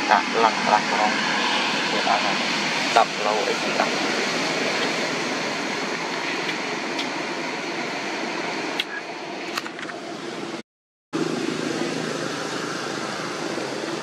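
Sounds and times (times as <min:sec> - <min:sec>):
road traffic rushing: 0:00.0 - 0:10.6, 0:11.2 - 0:14.0.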